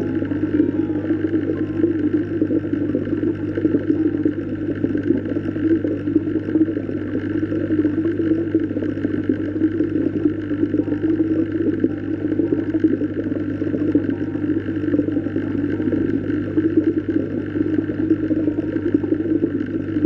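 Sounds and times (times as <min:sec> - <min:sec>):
low underwater drone: 0:00.0 - 0:20.0.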